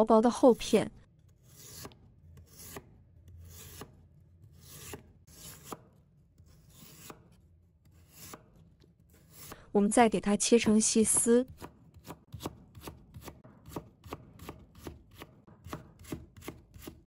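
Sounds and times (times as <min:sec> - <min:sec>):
cleaver slicing potato on board: 0:01.2 - 0:09.6, 0:11.1 - 0:17.0.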